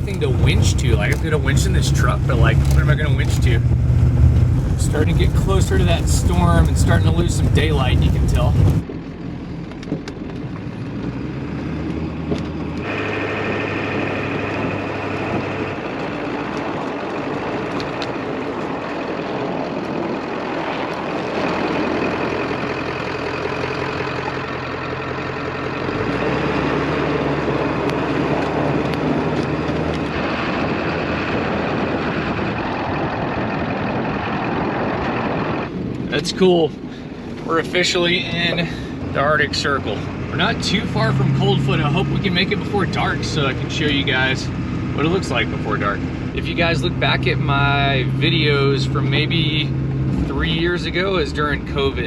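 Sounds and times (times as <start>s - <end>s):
diesel engine drone: 0.0s - 52.0s
road and tyre noise: 0.0s - 52.0s.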